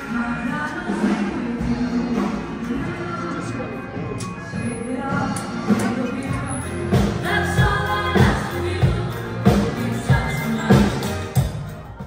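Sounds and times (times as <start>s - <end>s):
pop song with singing: 0.0s - 12.0s.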